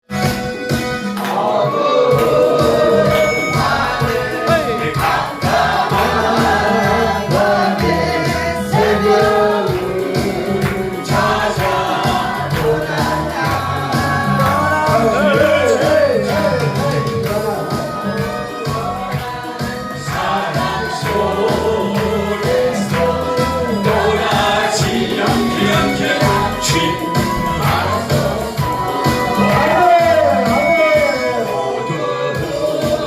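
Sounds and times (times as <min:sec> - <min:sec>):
band with steady beat: 0:00.1 - 0:33.0
group singing gospel song: 0:00.8 - 0:33.0.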